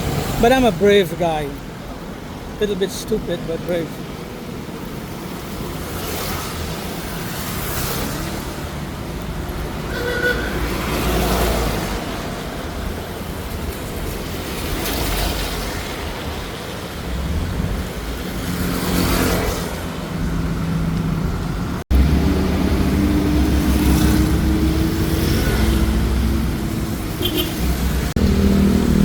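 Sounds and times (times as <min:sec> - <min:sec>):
vehicle engines running: 0:05.6 - 0:29.0.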